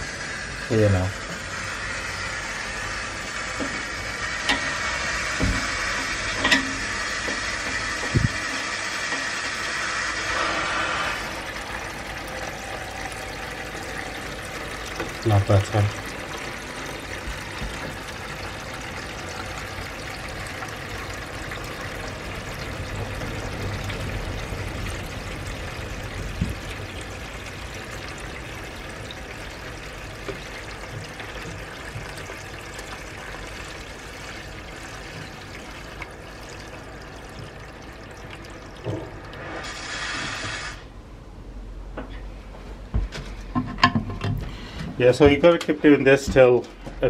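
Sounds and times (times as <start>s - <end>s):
water gushing into bucket: 0.0s - 40.9s.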